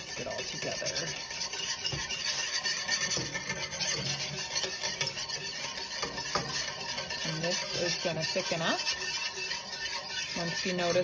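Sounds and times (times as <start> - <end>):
whisk scraping a metal pan: 0.0 - 11.0.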